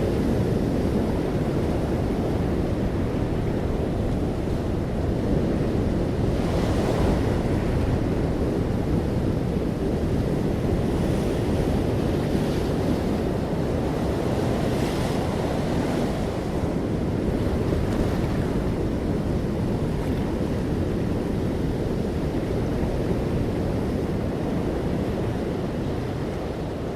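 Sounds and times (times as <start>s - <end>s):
ocean waves breaking on shore: 0.0s - 26.9s.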